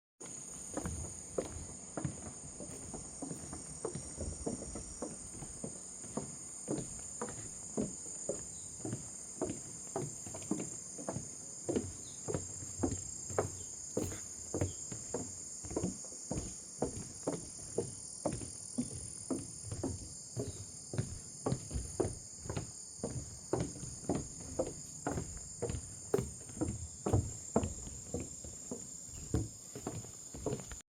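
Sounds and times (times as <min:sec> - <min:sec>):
footsteps on forest path: 0:00.2 - 0:30.8
insects buzzing: 0:00.2 - 0:30.8.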